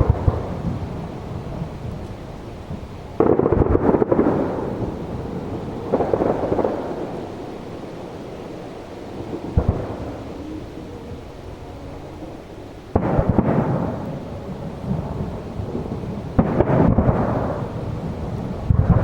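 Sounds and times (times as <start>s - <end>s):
firework crackling: 0.0s - 19.0s.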